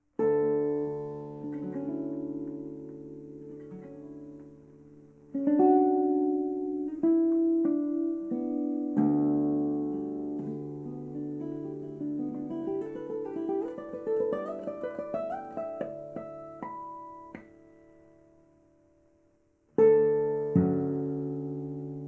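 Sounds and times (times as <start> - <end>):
classical guitar fingerstyle: 0.0 - 22.0.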